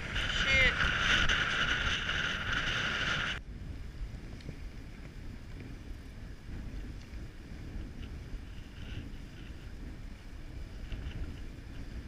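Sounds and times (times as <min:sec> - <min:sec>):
low wind rumble: 0:00.0 - 0:12.0
strong wind buffeting microphone: 0:00.0 - 0:12.0.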